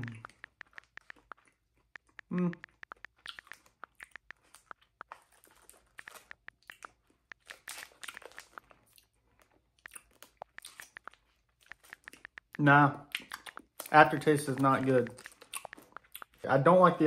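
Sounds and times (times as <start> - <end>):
chewing gummy candy: 0.0 - 17.0
wet mouth clicks and smacks: 0.0 - 17.0.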